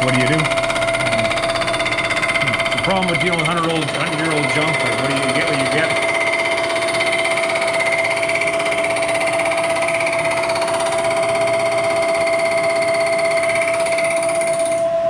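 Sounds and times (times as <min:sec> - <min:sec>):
milling machine running: 0:00.0 - 0:15.0.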